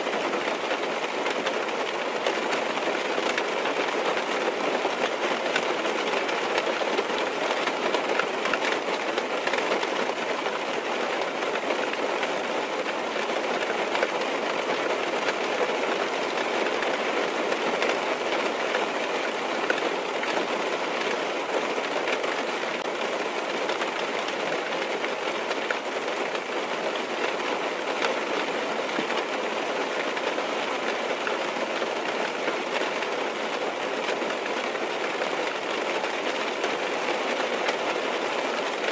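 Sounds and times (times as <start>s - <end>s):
rain on car roof: 0.0s - 38.9s.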